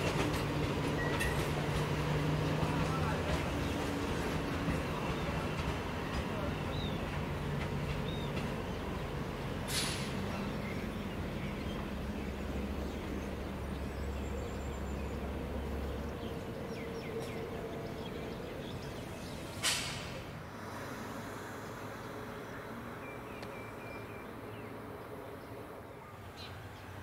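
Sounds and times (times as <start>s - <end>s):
train engine and wheels rumbling: 0.0s - 27.0s.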